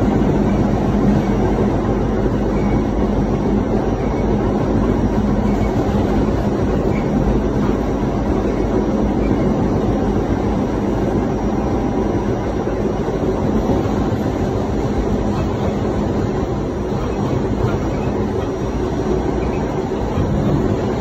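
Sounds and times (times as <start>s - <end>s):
faint constant hum: 0.0s - 21.0s
subway train rumbling: 0.0s - 21.0s.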